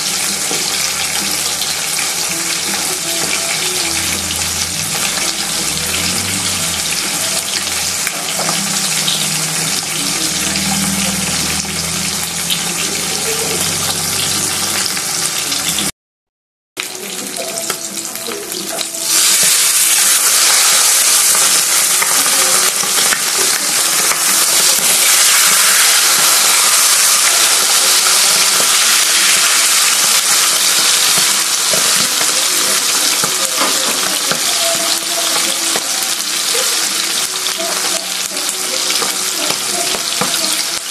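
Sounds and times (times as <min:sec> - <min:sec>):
fish sizzling in hot oil: 0:00.0 - 0:15.9, 0:16.8 - 0:40.9.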